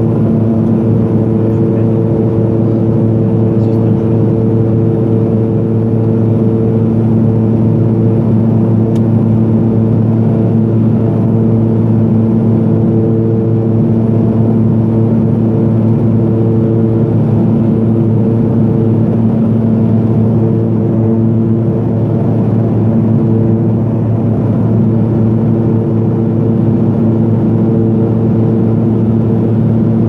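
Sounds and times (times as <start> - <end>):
turboprop cabin drone: 0.0 - 30.0.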